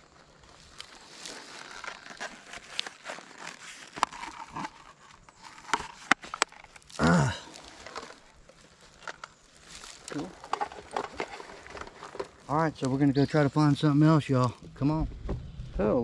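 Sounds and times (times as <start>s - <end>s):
plastic box lining crinkling: 0.0s - 14.4s.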